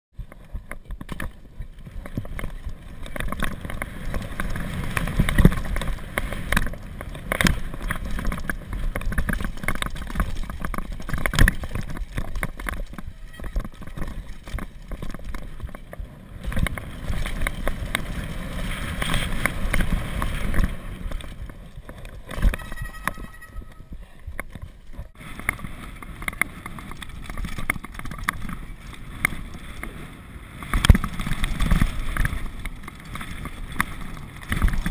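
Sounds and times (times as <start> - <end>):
bike knocking and rattling: 0.1 - 34.9
tyres crunching over stones: 0.3 - 30.0.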